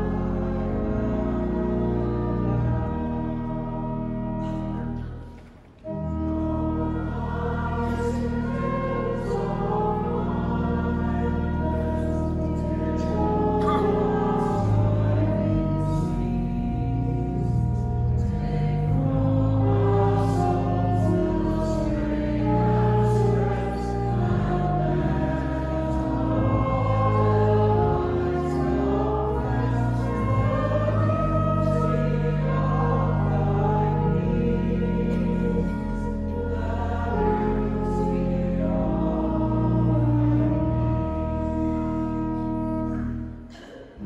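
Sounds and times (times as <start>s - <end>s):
church organ: 0.0s - 44.0s
voices singing a hymn: 0.0s - 44.0s.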